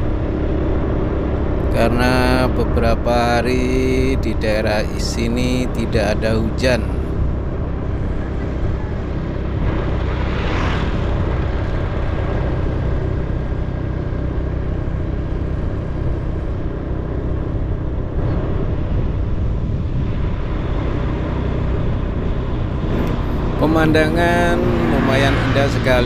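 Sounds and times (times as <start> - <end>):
faint steady whine: 0.0 - 26.0
rushing wind and road noise: 0.0 - 26.0.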